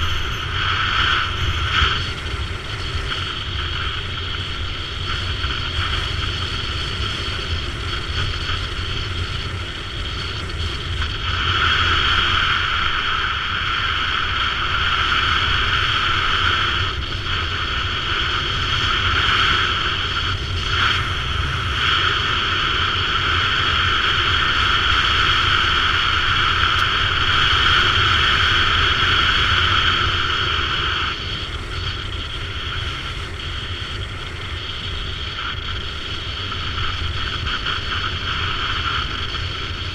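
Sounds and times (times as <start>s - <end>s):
motorcycle engine: 0.0s - 13.9s, 16.5s - 39.9s
wind noise: 0.0s - 39.9s.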